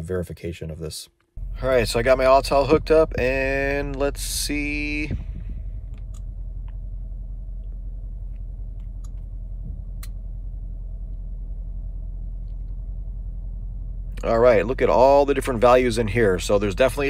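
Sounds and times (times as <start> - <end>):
steady low hum: 1.3 - 17.0.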